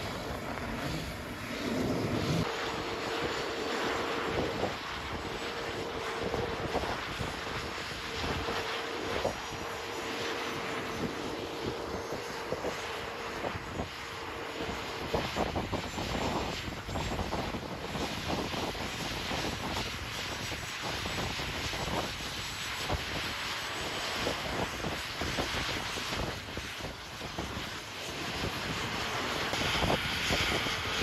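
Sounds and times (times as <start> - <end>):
faint steady whine: 0.0 - 31.0
helicopter rotors turning: 0.0 - 31.0
wind buffeting microphone: 0.0 - 31.0.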